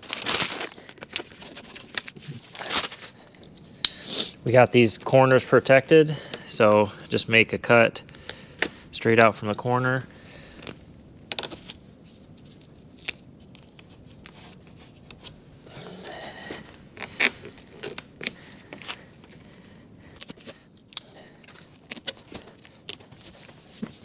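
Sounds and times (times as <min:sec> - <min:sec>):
tape crinkling and rustling: 0:00.0 - 0:07.2, 0:08.1 - 0:24.0.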